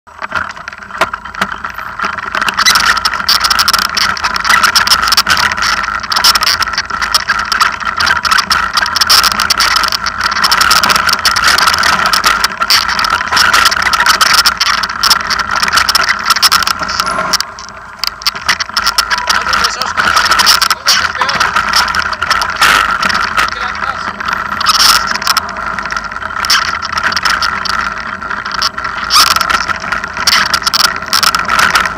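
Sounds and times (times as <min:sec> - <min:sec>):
small rattles and clicks: 0:00.1 - 0:31.9
vehicle engine running: 0:00.1 - 0:31.9.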